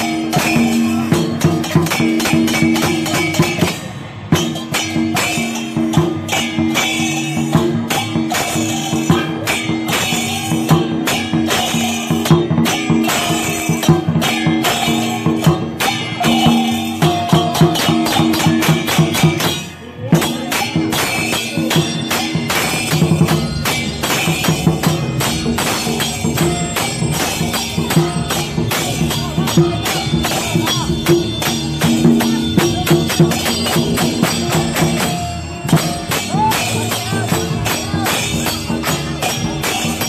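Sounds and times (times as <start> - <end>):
cymbals clashing: 0.0 - 40.0
drum beating fast: 0.0 - 40.0.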